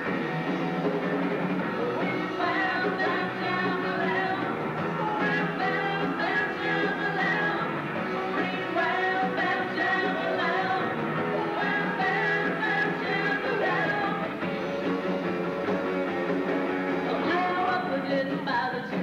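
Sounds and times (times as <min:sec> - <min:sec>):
live rock band playing: 0:00.0 - 0:19.0
woman singing: 0:01.7 - 0:15.1, 0:17.1 - 0:19.0.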